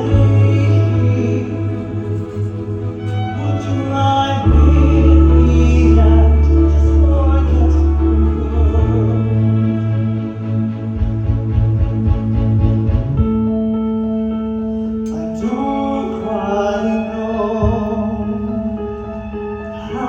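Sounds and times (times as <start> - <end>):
bowed string ensemble: 0.0 - 20.0
deep bass notes: 0.0 - 20.0.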